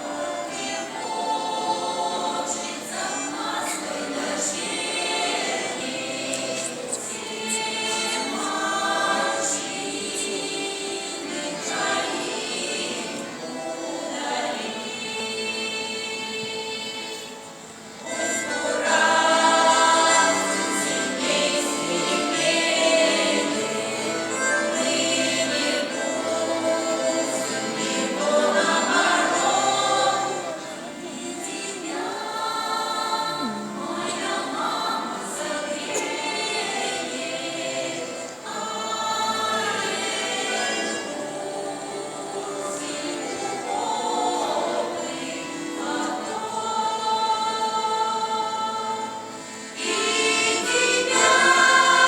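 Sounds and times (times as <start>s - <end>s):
folk choir singing: 0.0s - 52.0s.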